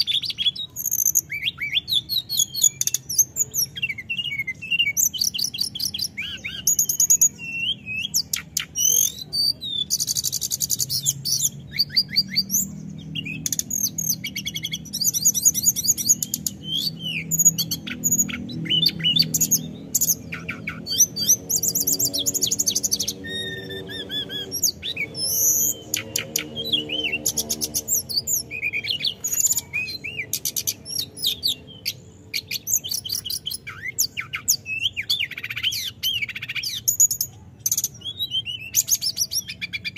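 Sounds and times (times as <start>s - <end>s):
bird singing high trills: 0.0s - 39.9s.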